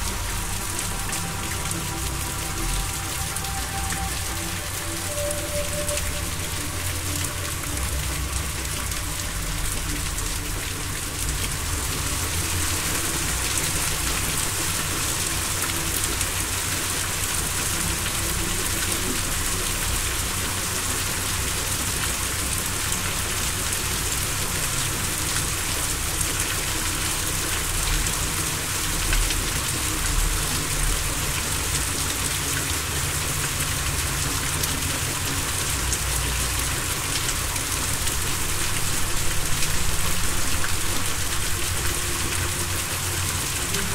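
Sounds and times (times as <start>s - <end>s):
low steady drone: 0.0s - 43.9s
rain-like hiss: 0.0s - 43.9s.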